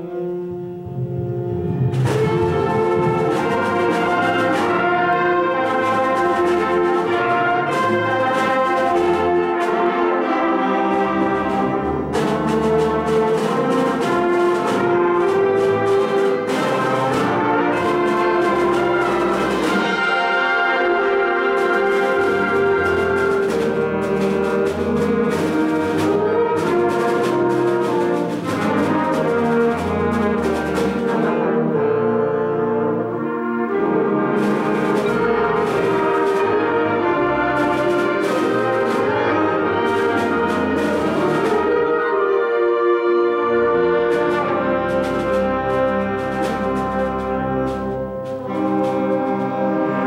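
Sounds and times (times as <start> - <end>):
concert band playing a fanfare: 0.0 - 50.0.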